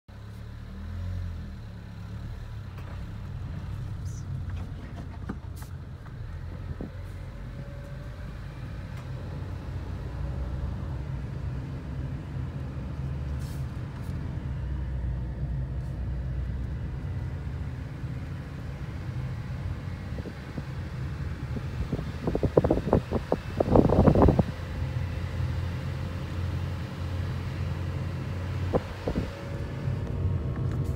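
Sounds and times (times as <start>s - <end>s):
car engine and road noise: 0.1s - 30.9s.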